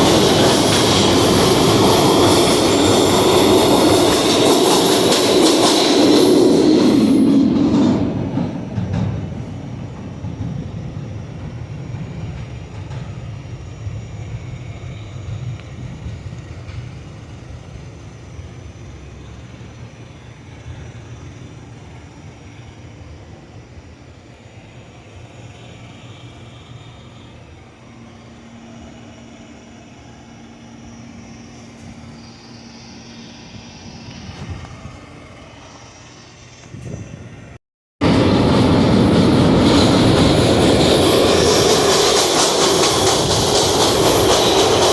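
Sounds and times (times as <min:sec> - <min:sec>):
low station hum: 0:00.0 - 0:44.9
subway train rumble: 0:00.0 - 0:44.9.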